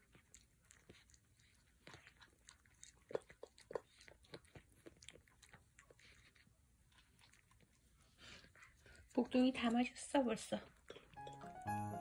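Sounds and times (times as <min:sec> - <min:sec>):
cat chewing: 0:00.0 - 0:09.4, 0:10.6 - 0:11.5.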